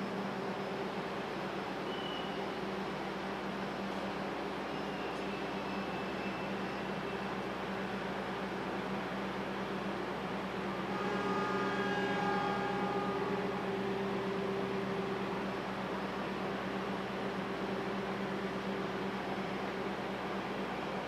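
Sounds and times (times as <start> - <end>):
train engine humming: 0.0 - 21.0.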